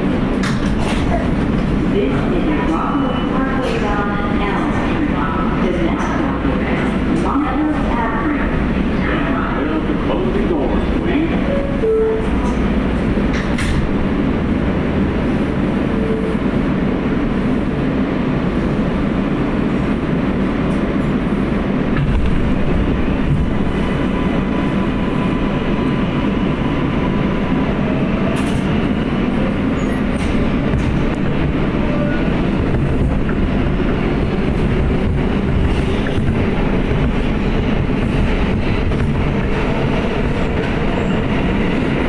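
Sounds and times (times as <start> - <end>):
subway car hum and rumble: 0.0 - 42.0.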